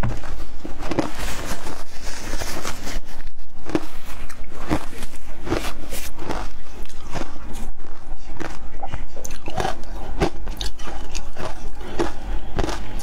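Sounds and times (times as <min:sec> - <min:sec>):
chewing crunchy ice: 0:00.0 - 0:13.0.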